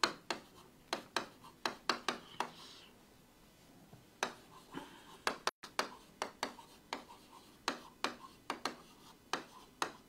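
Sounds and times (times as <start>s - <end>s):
marker writing on whiteboard: 0.0s - 2.8s, 4.2s - 10.0s.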